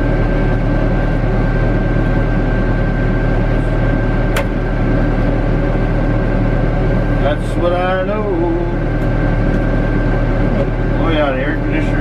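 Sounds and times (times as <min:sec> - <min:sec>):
machine engine drone in cab: 0:00.0 - 0:12.0
thin steady whine: 0:00.0 - 0:12.0.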